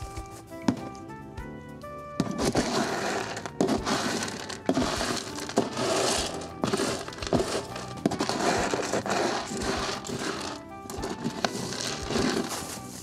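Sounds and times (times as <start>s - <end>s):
cat litter scooped and scraped: 2.2s - 13.0s.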